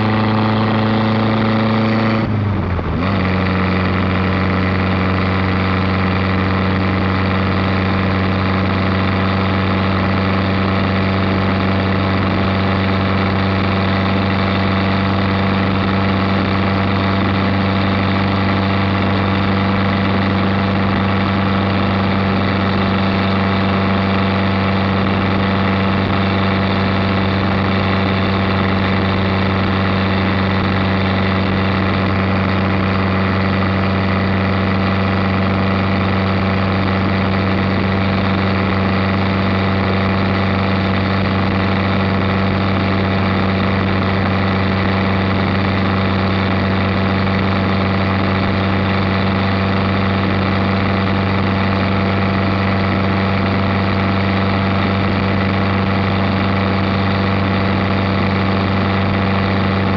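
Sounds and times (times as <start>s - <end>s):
car engine cruising: 0.0s - 59.9s
wind and road noise: 0.0s - 59.9s.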